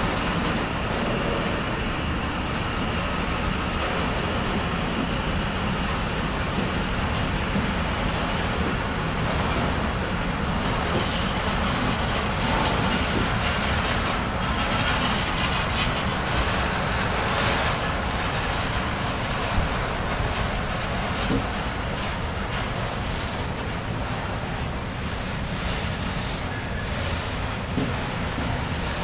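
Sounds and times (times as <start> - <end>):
steel wheels on rails: 0.0 - 29.0.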